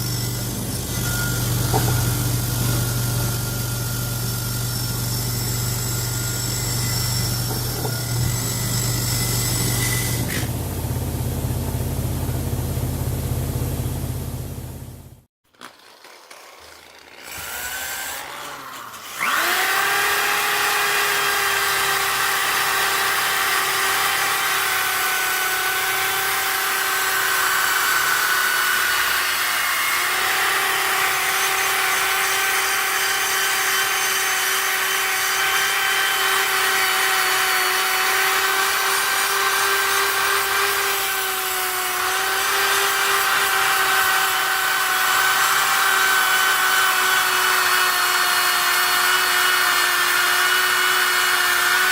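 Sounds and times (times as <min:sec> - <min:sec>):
power tool grinding metal: 0:00.0 - 0:10.6, 0:16.0 - 0:51.9.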